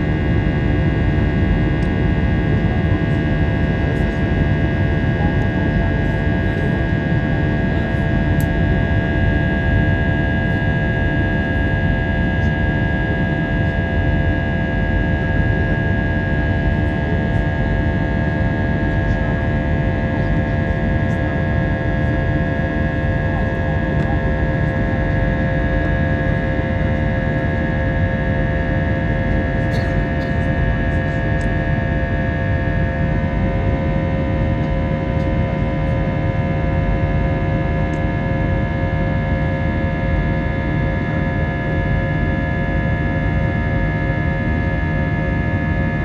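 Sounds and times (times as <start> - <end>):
jet engines running with whine: 0.0 - 46.0.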